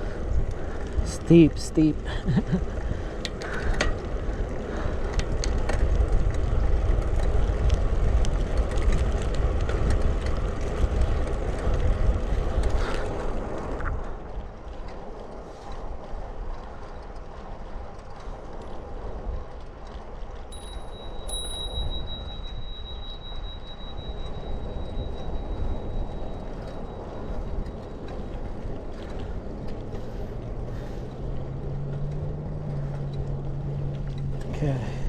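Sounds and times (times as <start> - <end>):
bicycle tyres rolling: 0.0 - 35.0
wind rushing over microphone: 0.0 - 35.0.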